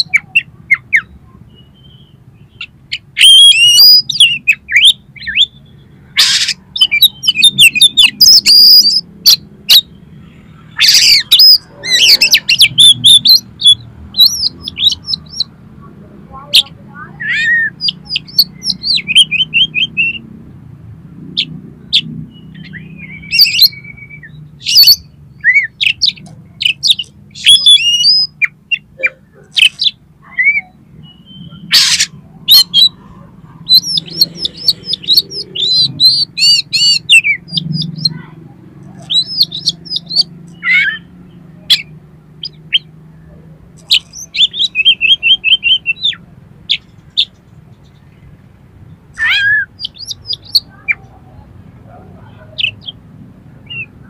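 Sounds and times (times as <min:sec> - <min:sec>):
songbird whistling and chirping: 0:00.0 - 0:10.0, 0:10.6 - 0:15.5, 0:16.4 - 0:20.2, 0:21.4 - 0:38.2, 0:38.9 - 0:48.2, 0:49.1 - 0:51.1, 0:53.6 - 0:54.0.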